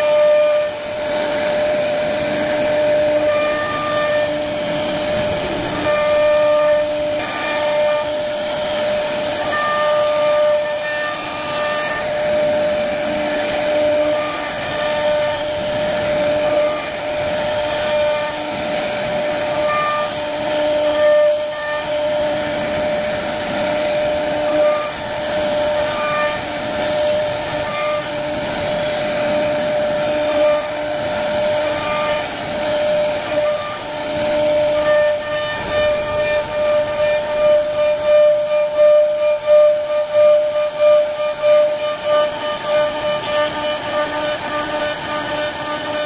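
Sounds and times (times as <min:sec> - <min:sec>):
wood cutting noise: 0:00.0 - 0:46.0
wood router spindle whine: 0:00.0 - 0:46.0.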